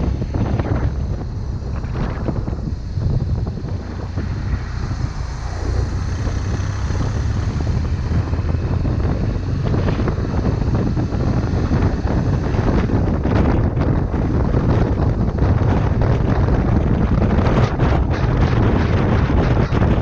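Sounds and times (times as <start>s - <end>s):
motorcycle engine drone: 0.0s - 20.0s
wind buffeting microphone: 0.0s - 20.0s.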